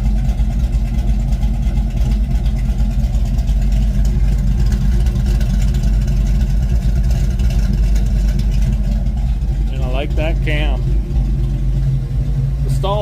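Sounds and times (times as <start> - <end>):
car engine running steadily: 0.0 - 13.0.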